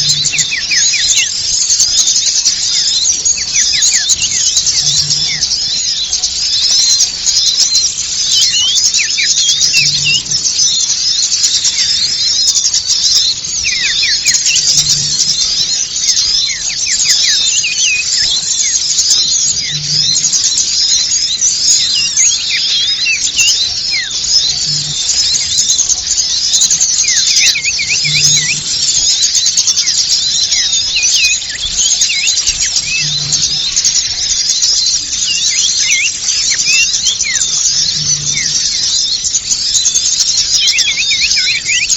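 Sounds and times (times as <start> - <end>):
small songbirds chirping: 0.0 - 41.9.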